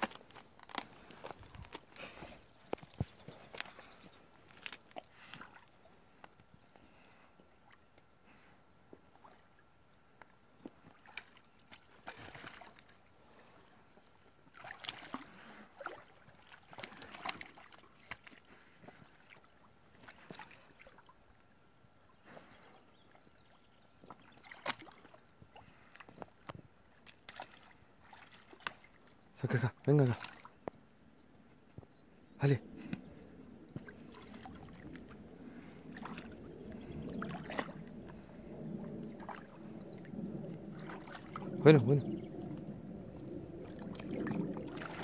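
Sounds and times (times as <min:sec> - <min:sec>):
water splashing and sloshing: 0:00.0 - 0:30.8, 0:32.4 - 0:45.0.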